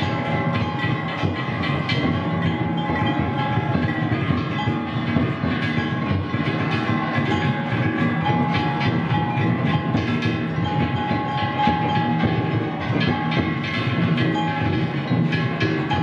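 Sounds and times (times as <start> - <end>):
crowd noise: 0.0 - 16.0
drums beating: 0.0 - 16.0
hand gongs clanging: 0.0 - 16.0
held high tone: 0.0 - 16.0.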